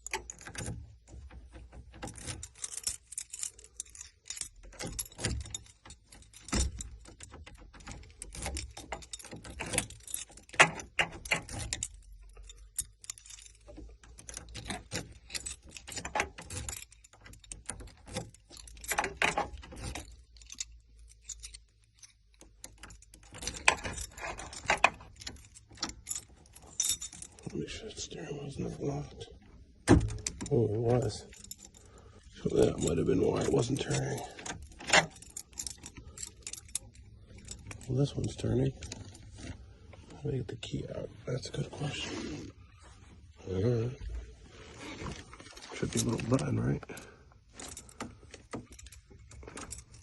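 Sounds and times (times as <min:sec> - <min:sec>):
key clicking in ignition lock: 0:00.0 - 0:27.5, 0:29.4 - 0:39.6, 0:46.0 - 0:50.0
keys jangling: 0:00.0 - 0:40.8, 0:45.0 - 0:50.0.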